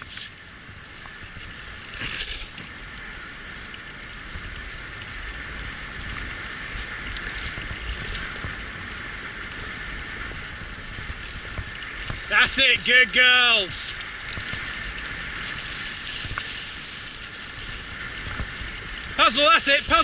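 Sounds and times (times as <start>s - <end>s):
wheels rumbling on a trail: 0.0s - 20.0s.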